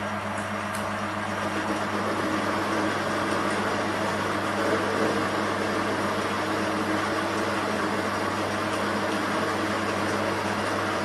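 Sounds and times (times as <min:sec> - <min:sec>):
metal lathe humming: 0:01.1 - 0:11.0.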